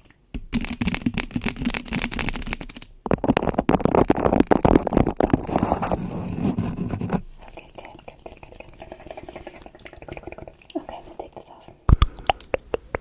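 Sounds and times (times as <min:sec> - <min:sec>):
crackling and clicking at microphone: 0:00.0 - 0:13.0.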